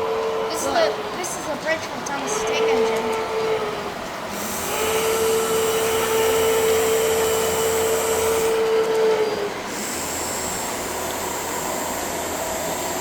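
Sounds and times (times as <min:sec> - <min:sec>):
model train motor whine: 0:00.0 - 0:13.0.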